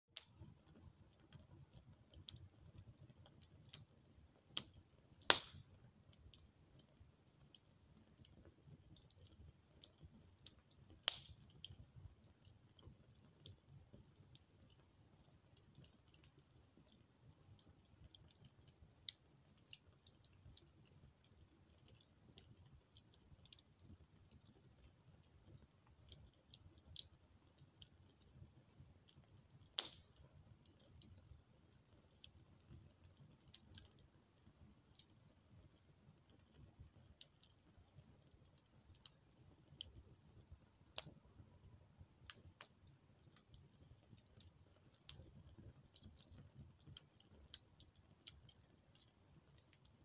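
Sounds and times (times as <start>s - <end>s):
wood fire crackling: 0.1s - 50.0s
sharp pops of burning wood: 0.2s - 50.0s.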